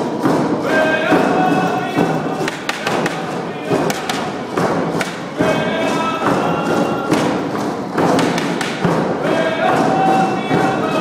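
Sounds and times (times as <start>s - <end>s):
drum beats: 0.0s - 11.0s
group singing: 0.3s - 11.0s.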